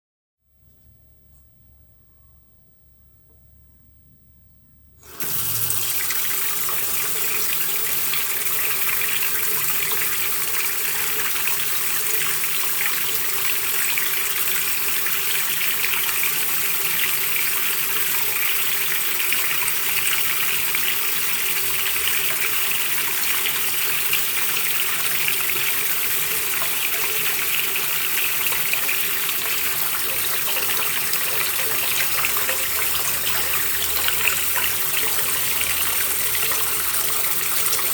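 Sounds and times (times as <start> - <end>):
faucet turned on: 5.0 - 37.9
tap water running into sink: 5.0 - 37.9.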